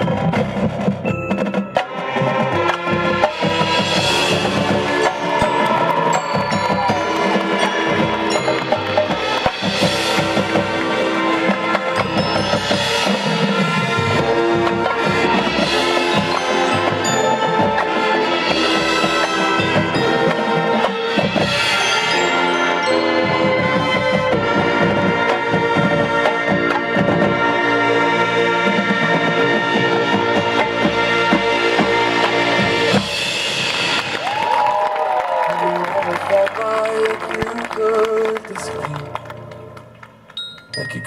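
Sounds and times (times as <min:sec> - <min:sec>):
brass and saxophone chords: 0:00.0 - 0:34.1
drumline and mallet percussion: 0:00.0 - 0:41.0.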